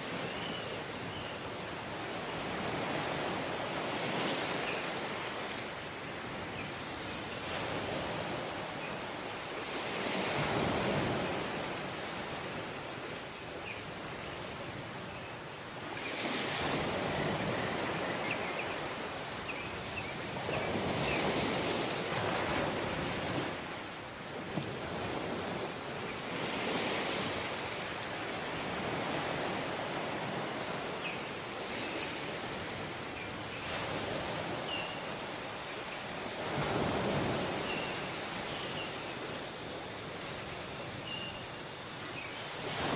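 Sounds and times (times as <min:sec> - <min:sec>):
waves washing on beach: 0:00.0 - 0:42.9.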